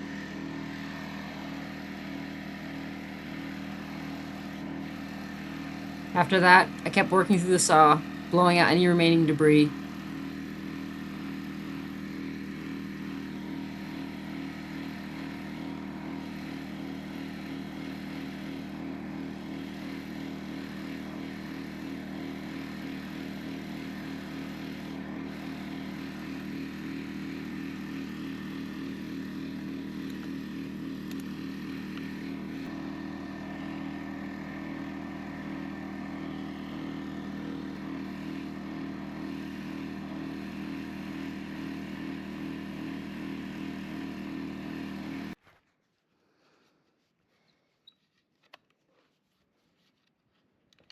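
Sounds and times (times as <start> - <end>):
air compressor drone: 0.0 - 45.4.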